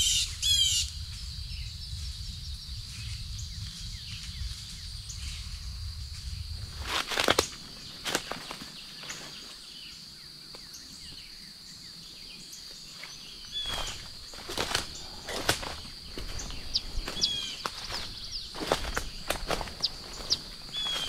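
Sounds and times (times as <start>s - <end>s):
footsteps on woodland ground: 3.0s - 11.4s, 12.0s - 21.0s.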